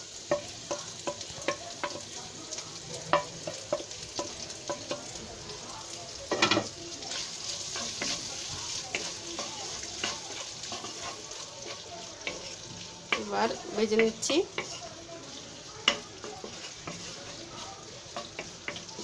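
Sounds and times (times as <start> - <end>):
spatula stirring vegetables: 0.0 - 19.0
vegetables sizzling in oil: 0.0 - 19.0.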